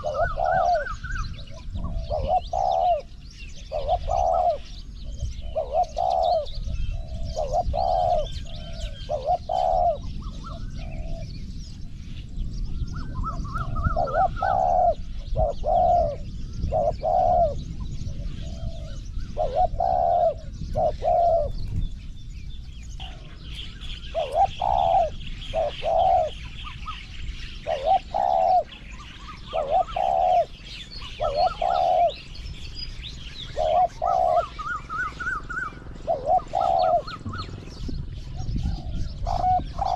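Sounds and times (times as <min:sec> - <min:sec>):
dove cooing: 0:00.0 - 0:12.0, 0:12.8 - 0:39.9.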